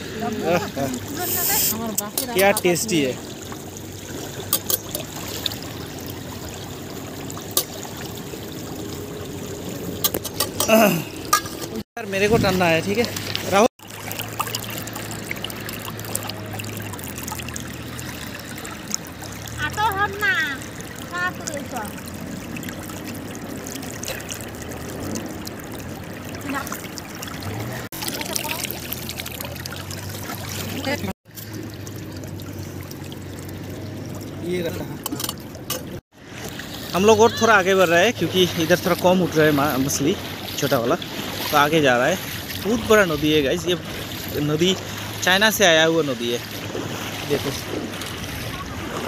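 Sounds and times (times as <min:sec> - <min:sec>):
river water trickling: 0:00.0 - 0:49.0.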